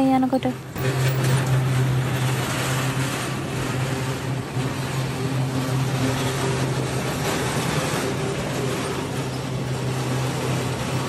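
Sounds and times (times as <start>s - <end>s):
train motor hum: 0.0s - 11.0s
wheels rolling and rumbling: 0.0s - 11.0s.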